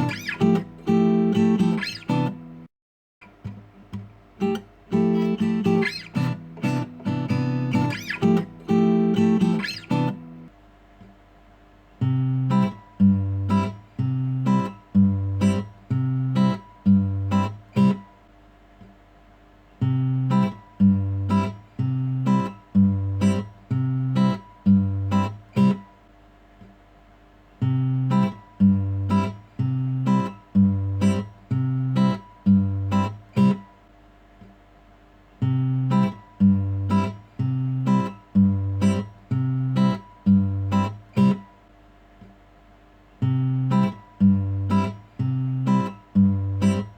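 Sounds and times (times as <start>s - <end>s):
plucked acoustic guitar: 0.0s - 2.6s, 3.2s - 10.5s, 12.0s - 18.2s, 19.8s - 26.0s, 27.6s - 33.8s, 35.4s - 41.6s, 43.2s - 46.9s.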